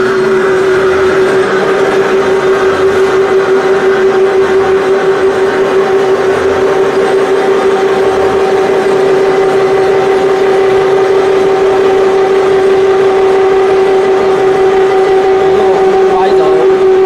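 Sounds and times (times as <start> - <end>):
workshop machinery drone: 0.0 - 17.0.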